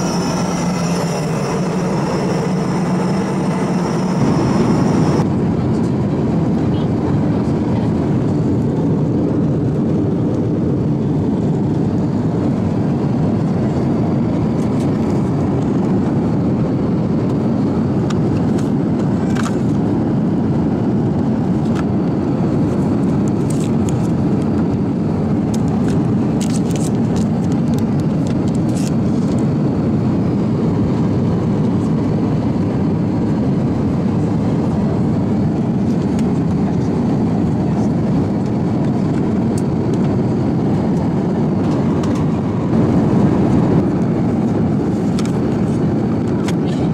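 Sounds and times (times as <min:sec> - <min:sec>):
airplane cabin noise: 0:00.0 - 0:46.9.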